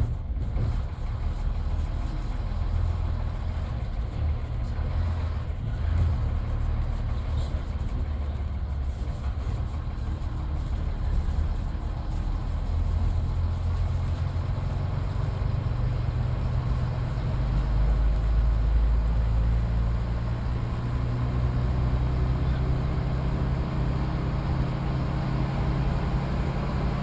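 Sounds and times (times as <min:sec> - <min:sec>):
bus diesel engine drone: 0:00.0 - 0:27.0.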